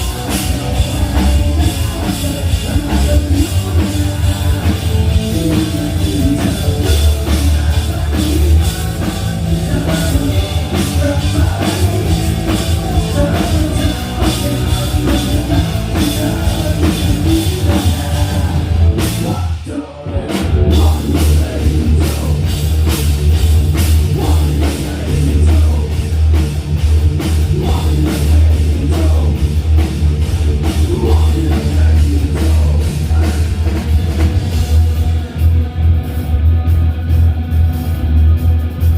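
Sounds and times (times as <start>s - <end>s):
heavy bass: 0.0s - 38.9s
loud drum kit: 0.0s - 38.9s.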